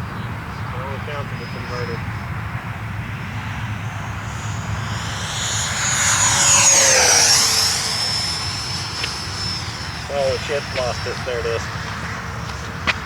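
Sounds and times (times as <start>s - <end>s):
model jet fan whine passing: 0.0s - 13.0s.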